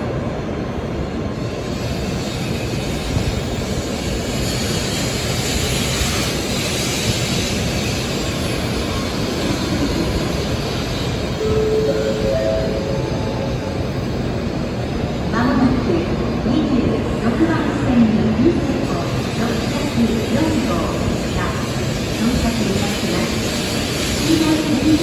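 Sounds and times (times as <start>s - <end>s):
train rushing past: 0.0s - 25.0s.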